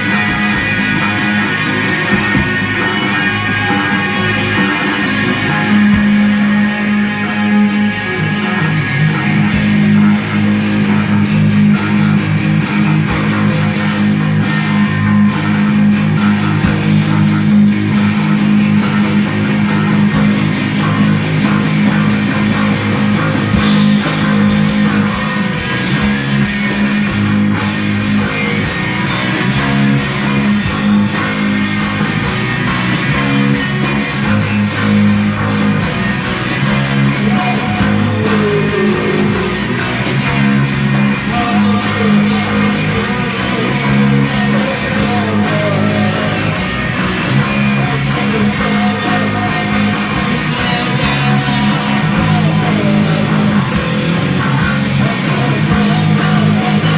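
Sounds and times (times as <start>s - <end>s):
bass guitar: 0.0s - 56.9s
drum kit: 0.0s - 56.9s
electric guitar: 0.0s - 56.9s.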